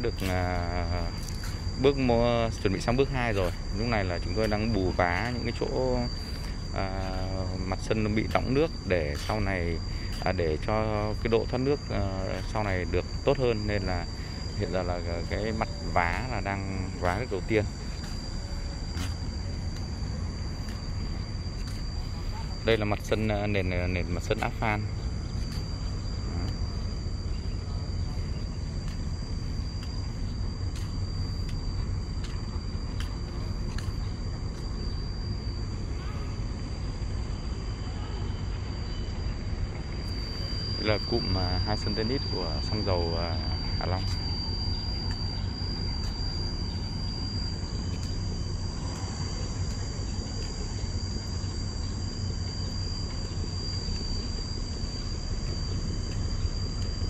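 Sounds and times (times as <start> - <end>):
high-pitched whine: 0.0 - 57.0.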